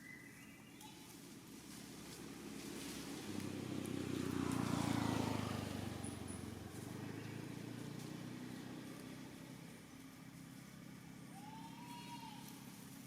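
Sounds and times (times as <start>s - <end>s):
motor vehicle passing by: 0.3s - 13.0s.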